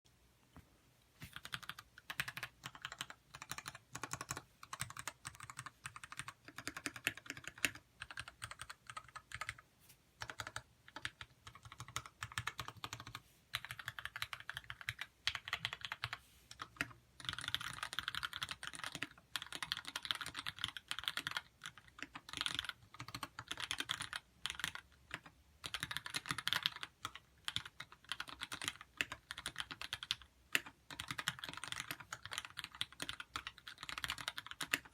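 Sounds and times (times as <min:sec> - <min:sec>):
mechanical keyboard typing: 0:01.3 - 0:09.6, 0:10.2 - 0:34.9.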